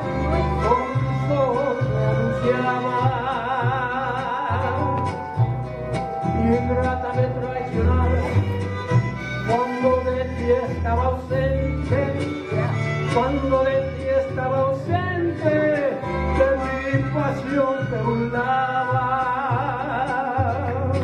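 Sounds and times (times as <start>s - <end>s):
backing track of guitars and violins: 0.0s - 21.0s
man singing: 0.0s - 21.0s.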